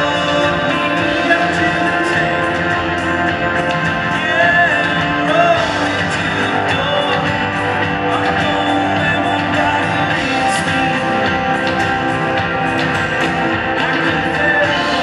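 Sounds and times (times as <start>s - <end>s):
live rock band playing: 0.0s - 15.0s
strummed guitar: 0.0s - 15.0s.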